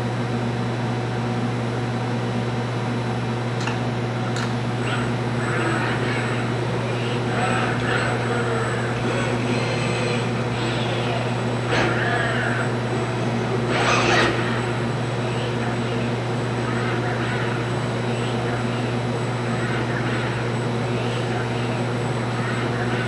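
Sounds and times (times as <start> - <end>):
spray booth machinery hum: 1.9 - 23.0.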